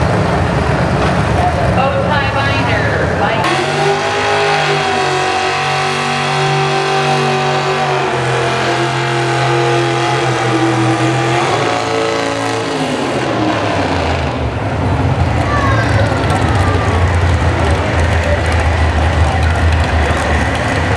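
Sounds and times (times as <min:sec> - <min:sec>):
tractor engine running hard: 0:00.0 - 0:20.9.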